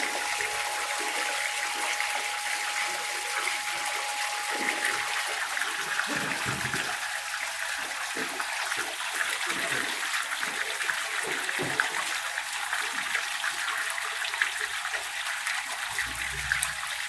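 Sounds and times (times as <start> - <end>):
water rushing from drain hose: 0.0 - 17.0.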